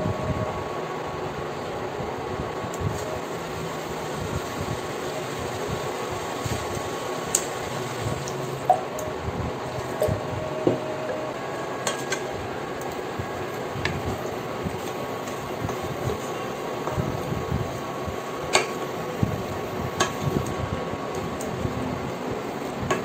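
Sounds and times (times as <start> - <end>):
steady hiss and hum: 0.0 - 23.0.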